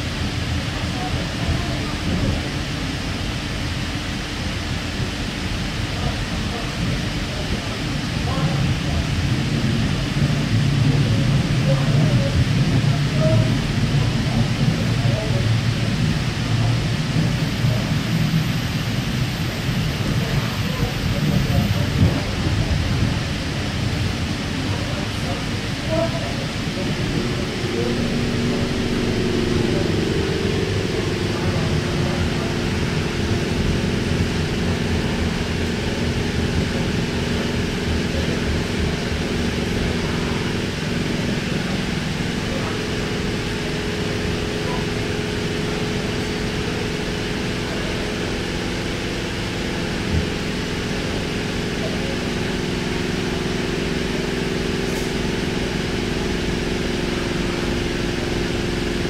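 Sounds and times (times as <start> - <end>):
onboard equipment hum: 8.2 - 59.0.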